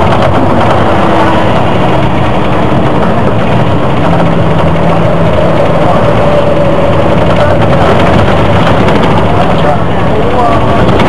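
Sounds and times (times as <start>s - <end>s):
bus diesel engine drone: 0.0s - 11.0s
high whine: 0.0s - 11.0s.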